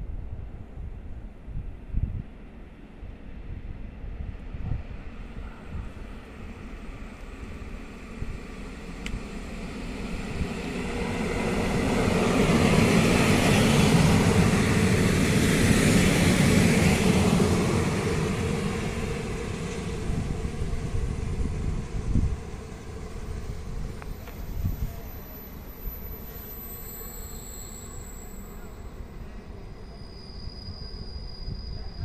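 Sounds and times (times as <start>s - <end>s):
train wheels rumbling on rails: 4.0s - 32.0s.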